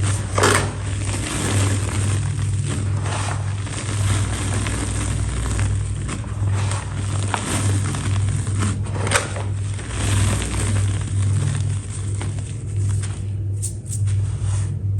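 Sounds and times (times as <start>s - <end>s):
brittle material crumbling and snapping: 0.0s - 14.0s
low hum: 0.0s - 14.9s.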